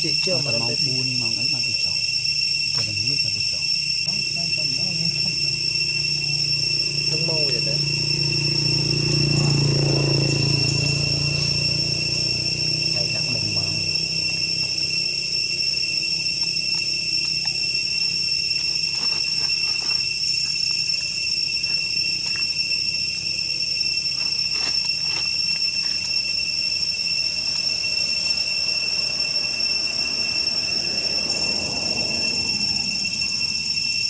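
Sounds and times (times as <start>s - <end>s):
insect chorus: 0.0s - 34.0s.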